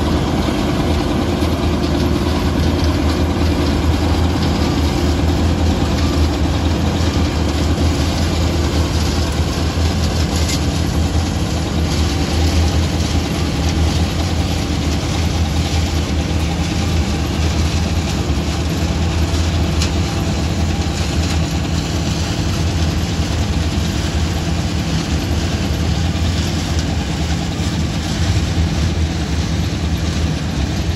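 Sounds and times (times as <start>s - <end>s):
combine harvester droning: 0.0s - 30.9s.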